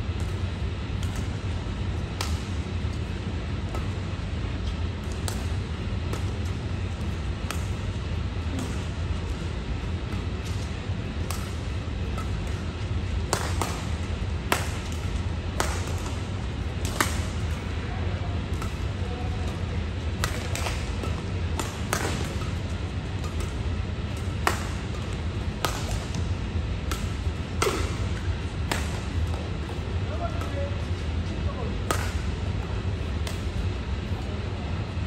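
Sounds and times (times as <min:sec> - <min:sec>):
steady low hum: 0:00.0 - 0:35.0
rackets hitting shuttlecock: 0:00.2 - 0:30.9, 0:31.8 - 0:33.7.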